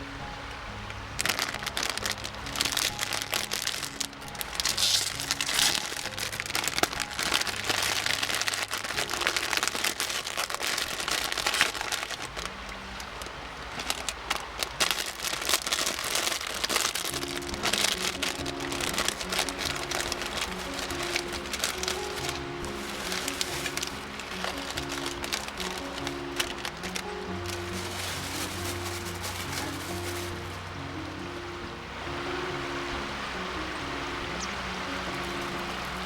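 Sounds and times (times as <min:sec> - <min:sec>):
soft background music: 0:00.0 - 0:36.0
plastic packaging crinkling: 0:01.2 - 0:30.8.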